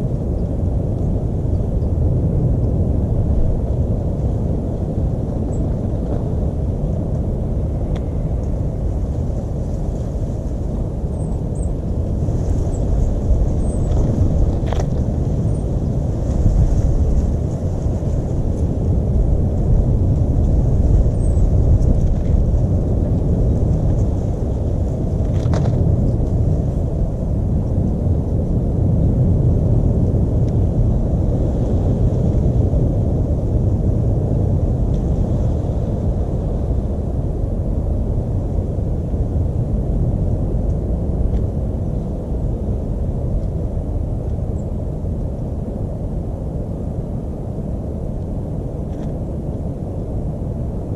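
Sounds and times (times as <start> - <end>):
steady low rumbling: 0.0 - 50.9.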